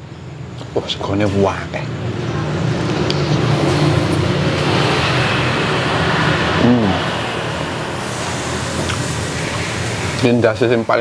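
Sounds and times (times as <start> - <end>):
vehicle passing on road: 1.7 - 10.9.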